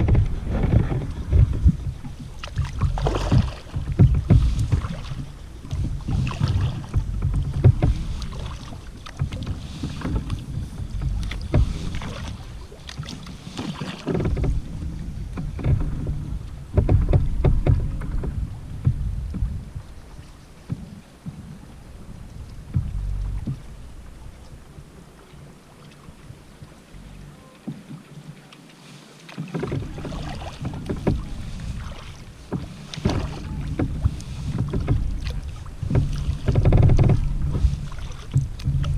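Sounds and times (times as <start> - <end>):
wind on microphone: 0.0 - 28.4, 29.6 - 38.9
paddle strokes splashing: 0.0 - 38.9.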